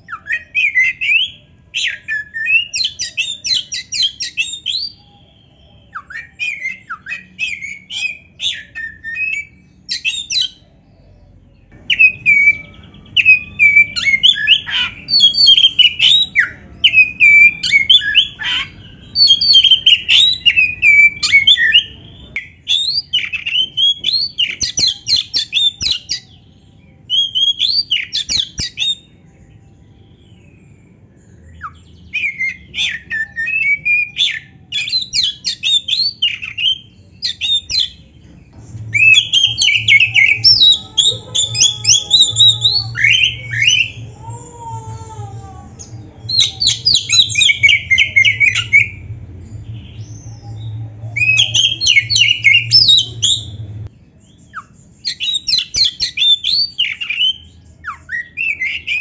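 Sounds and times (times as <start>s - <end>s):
bird singing whistled phrases: 0.0s - 10.6s, 11.7s - 26.5s, 27.1s - 29.1s, 30.2s - 38.1s, 38.8s - 44.1s, 45.8s - 53.6s, 54.4s - 59.0s.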